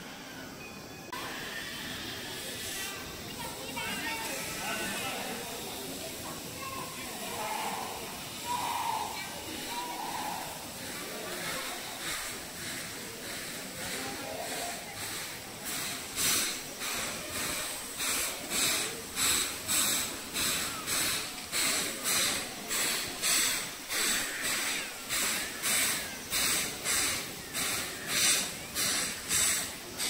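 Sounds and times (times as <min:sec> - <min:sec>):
cicadas calling: 0:00.0 - 0:30.0.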